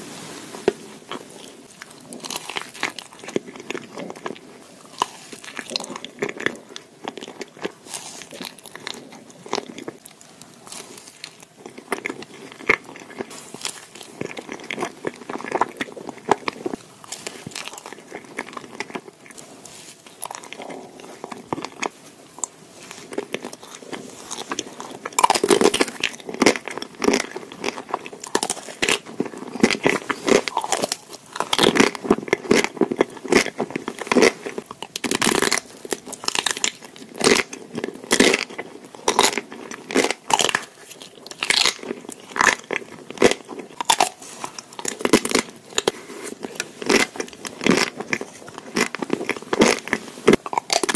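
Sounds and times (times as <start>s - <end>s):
biting and chewing ice cream: 1.0s - 50.9s.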